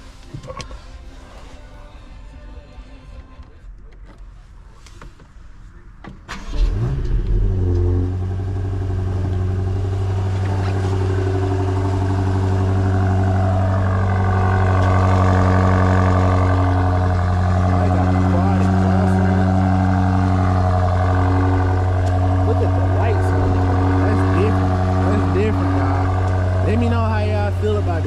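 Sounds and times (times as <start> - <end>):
car engine starting and idling: 4.1 - 28.0.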